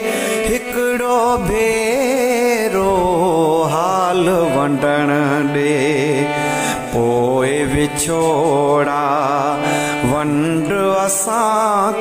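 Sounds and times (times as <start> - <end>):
ornamented melody line: 0.0 - 12.0.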